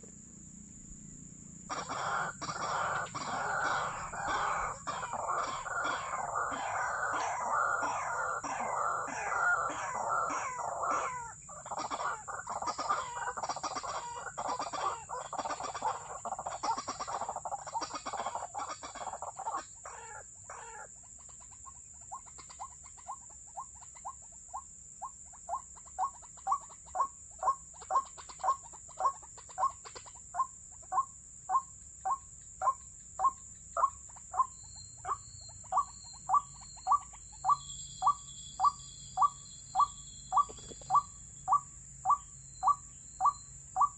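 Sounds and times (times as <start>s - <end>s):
waterhen chattering and calling: 1.7s - 43.9s.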